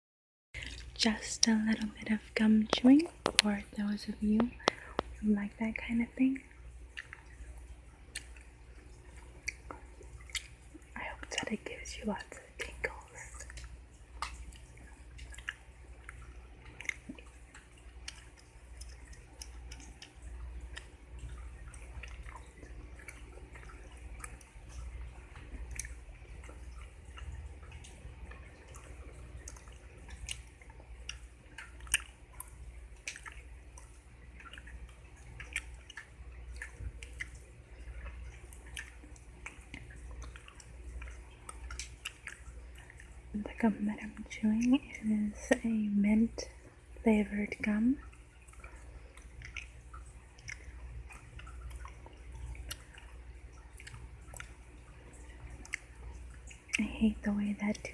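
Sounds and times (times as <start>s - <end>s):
gum chewing smacks and clicks: 0.6s - 5.2s, 6.4s - 45.7s, 48.0s - 57.0s.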